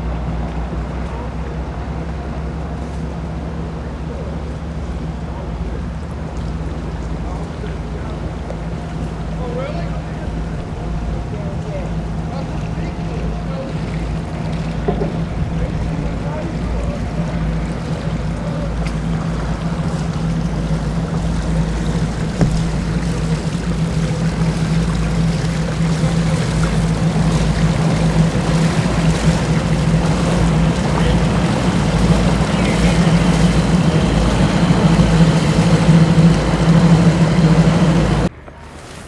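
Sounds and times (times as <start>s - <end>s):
boat engine running: 0.0s - 39.0s
water noise: 0.0s - 39.0s.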